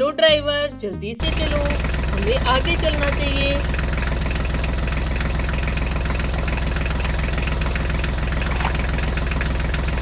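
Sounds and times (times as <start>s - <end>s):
tractor engine chugging: 1.2s - 10.0s.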